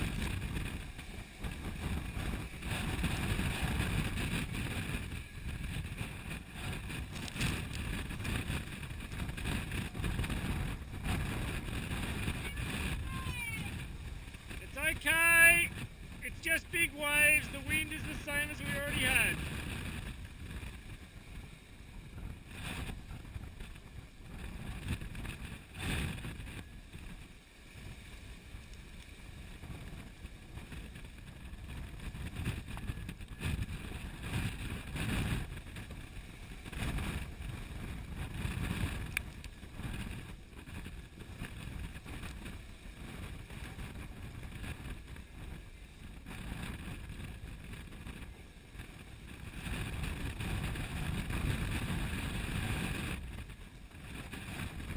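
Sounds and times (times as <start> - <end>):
strong wind across microphone: 0.0 - 54.9
water splashing along hull: 0.0 - 54.9.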